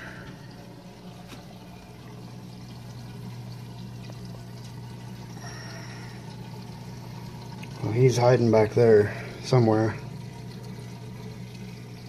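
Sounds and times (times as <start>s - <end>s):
low pump hum: 0.0s - 12.0s
water running and splashing: 0.0s - 12.0s.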